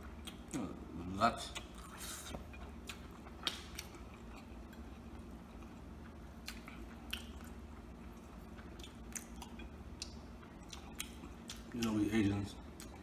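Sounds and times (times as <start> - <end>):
faint chewing: 1.5 - 12.2.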